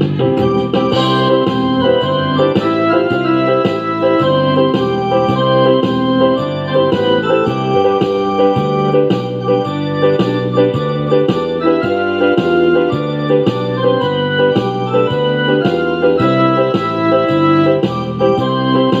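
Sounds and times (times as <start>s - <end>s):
organ-like keyboard chords: 0.0s - 19.0s.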